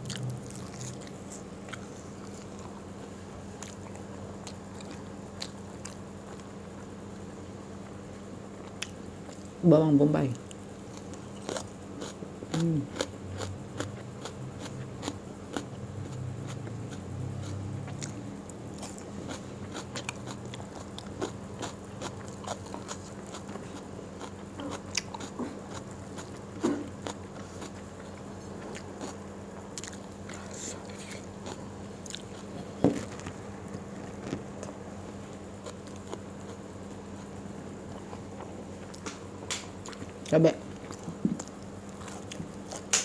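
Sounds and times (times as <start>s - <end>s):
person chewing food: 0.0s - 2.8s, 3.4s - 6.5s, 8.6s - 9.5s, 10.4s - 43.0s.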